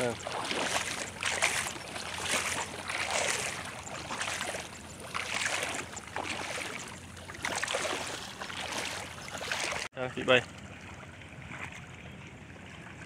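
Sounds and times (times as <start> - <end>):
water sloshing around wading legs: 0.0 - 13.0.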